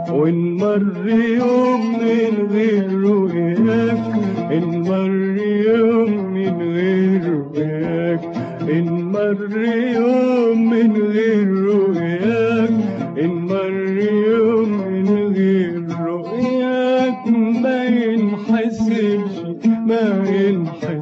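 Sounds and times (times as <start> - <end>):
man singing melismatic notes: 0.0 - 21.0.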